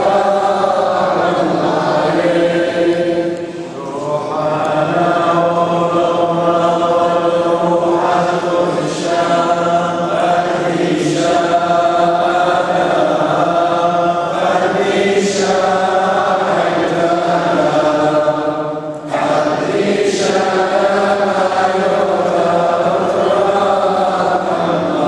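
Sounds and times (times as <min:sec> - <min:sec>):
men chanting together: 0:00.0 - 0:25.0.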